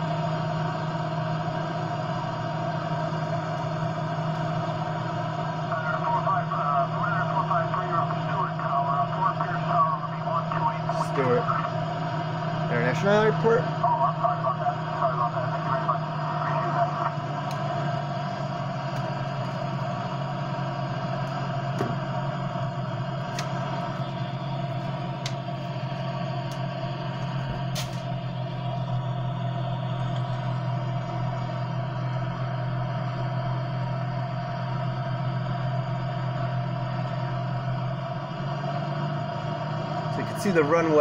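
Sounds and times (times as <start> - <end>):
aircraft engine and propeller drone: 0.0 - 41.0.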